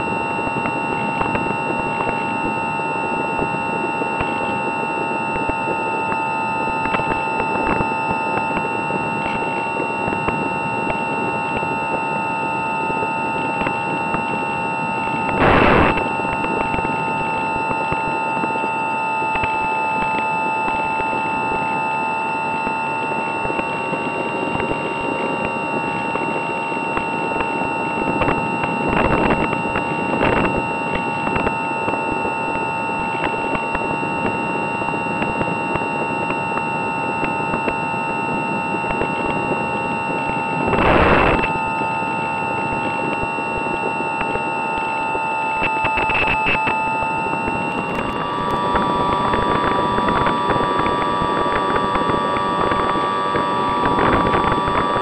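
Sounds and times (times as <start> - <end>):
electric motor and propeller whine: 0.0 - 55.0.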